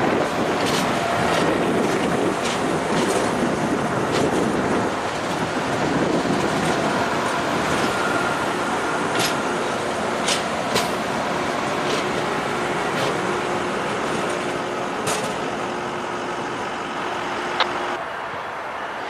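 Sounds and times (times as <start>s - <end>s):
wheels clicking over rail joints: 0.0s - 17.9s
train wheels rumbling on rail: 0.0s - 19.0s.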